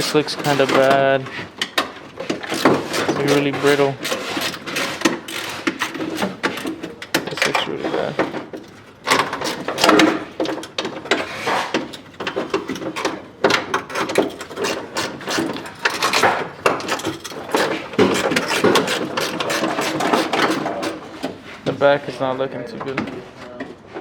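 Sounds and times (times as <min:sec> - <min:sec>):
car parts and tools knocking: 0:00.0 - 0:21.8.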